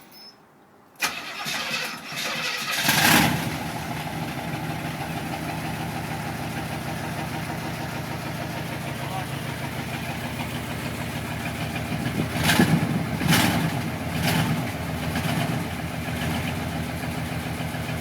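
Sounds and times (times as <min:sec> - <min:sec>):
car engine revving and idling: 0:02.7 - 0:18.0.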